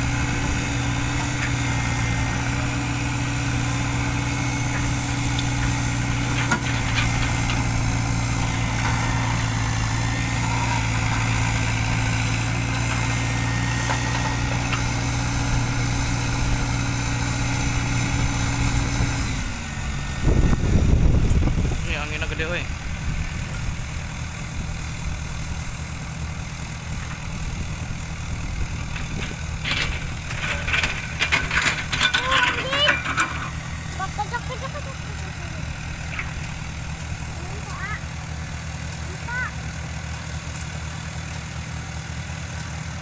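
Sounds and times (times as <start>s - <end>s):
heavy machinery engine idling: 0.0s - 43.0s.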